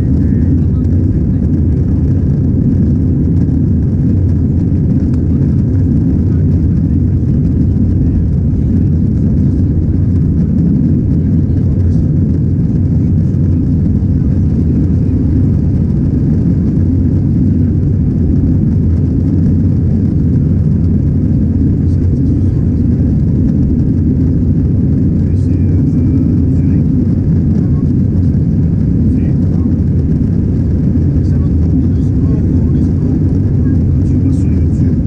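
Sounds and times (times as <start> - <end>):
aircraft cabin engine rumble: 0.0 - 35.0.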